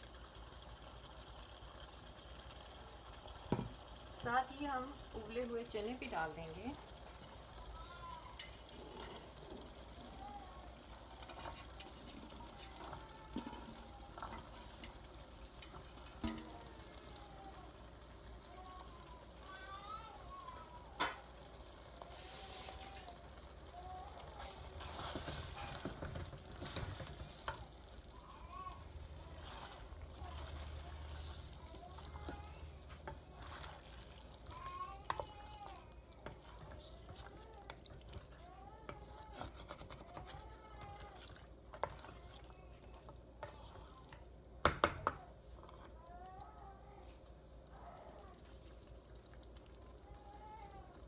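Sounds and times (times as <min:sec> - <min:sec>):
curry sizzling in a pot: 0:00.0 - 0:51.0.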